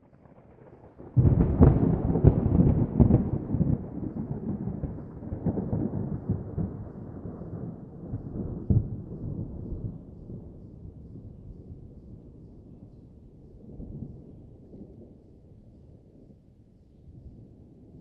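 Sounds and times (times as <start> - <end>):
thunder crack and rumble: 0.0 - 15.3.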